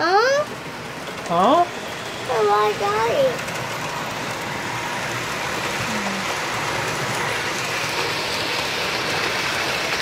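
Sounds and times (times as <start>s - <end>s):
model train wheels rattling: 0.2s - 10.0s.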